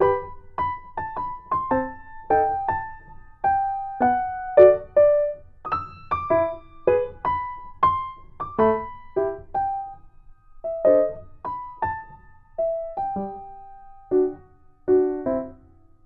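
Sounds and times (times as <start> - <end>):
simple piano melody: 0.0 - 16.0.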